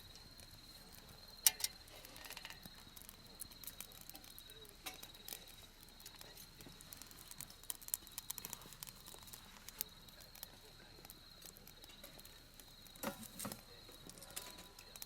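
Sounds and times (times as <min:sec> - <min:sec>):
insect trilling: 0:00.2 - 0:15.0.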